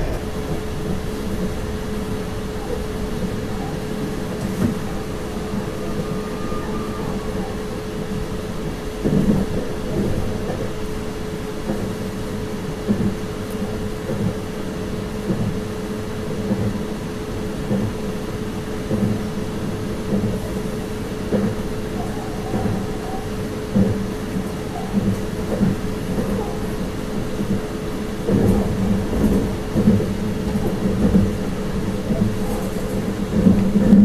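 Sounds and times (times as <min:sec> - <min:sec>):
electric train hum: 0:00.0 - 0:34.0
wheels rumbling on rails: 0:00.0 - 0:34.0.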